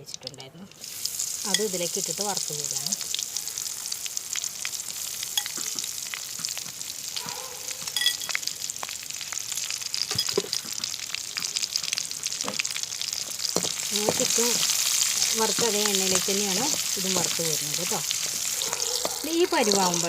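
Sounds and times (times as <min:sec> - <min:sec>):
chillies sizzling in hot oil: 0:00.0 - 0:20.0
oil crackling and popping: 0:00.0 - 0:20.0.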